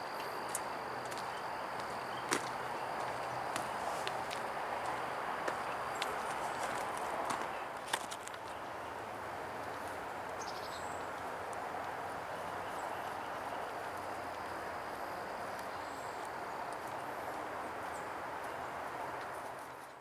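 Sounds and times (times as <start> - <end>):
distant highway traffic: 0.0 - 20.0.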